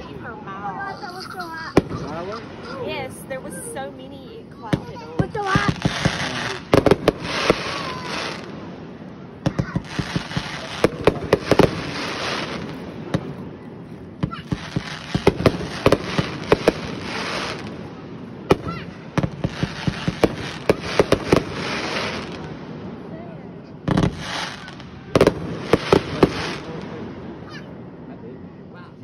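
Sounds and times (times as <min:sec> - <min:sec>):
fireworks hissing: 0:00.0 - 0:28.0
fireworks bangs and pops: 0:01.2 - 0:03.2, 0:04.5 - 0:23.1, 0:23.7 - 0:27.6.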